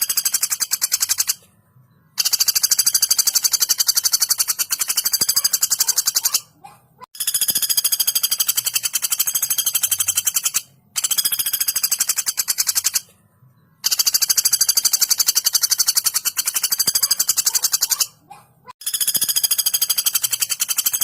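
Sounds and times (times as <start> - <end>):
woodpecker rattling call: 0.0 - 1.4, 2.2 - 13.1, 13.8 - 18.2, 18.8 - 21.0.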